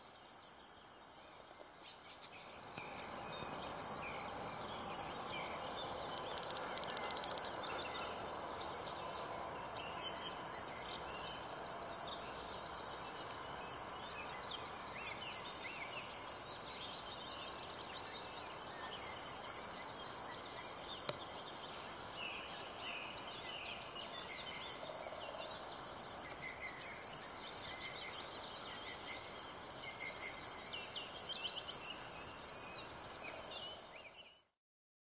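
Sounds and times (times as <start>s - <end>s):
steady background hiss: 0.0s - 34.4s
songbirds chirping and trilling: 0.0s - 34.5s.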